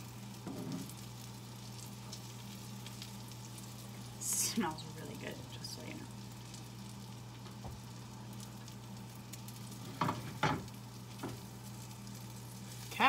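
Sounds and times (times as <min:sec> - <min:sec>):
steady low hum: 0:00.0 - 0:13.0
toast sizzling in frying pan: 0:00.0 - 0:13.0.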